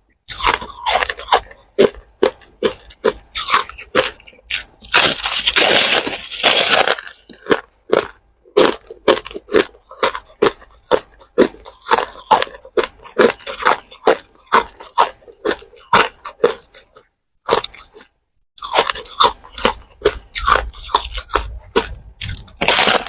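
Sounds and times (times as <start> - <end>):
ice cubes crunched by chewing: 0.3 - 23.0.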